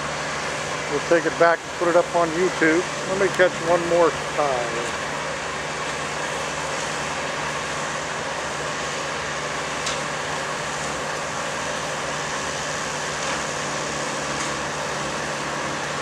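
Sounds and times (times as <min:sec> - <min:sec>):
diesel engine and hydraulics running: 0:00.0 - 0:16.0.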